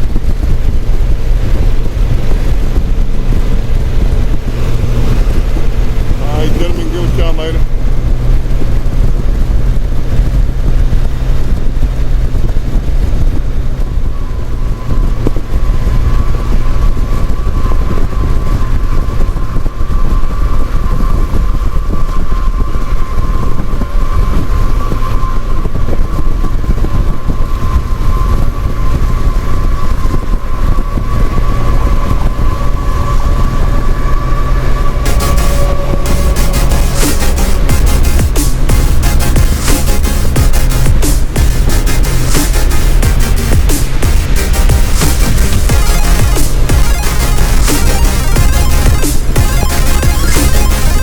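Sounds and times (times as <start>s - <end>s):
faint steady whine: 0.0s - 51.0s
motorcycle engine: 0.0s - 51.0s
wind buffeting microphone: 0.0s - 51.0s.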